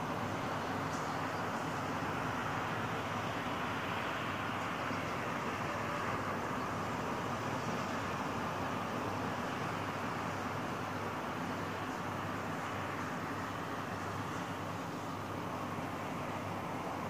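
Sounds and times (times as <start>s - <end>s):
distant city traffic hum: 0.0s - 17.0s.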